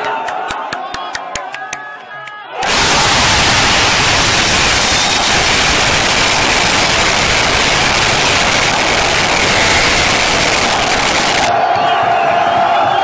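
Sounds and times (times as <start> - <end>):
crowd roaring: 0.0 - 13.0.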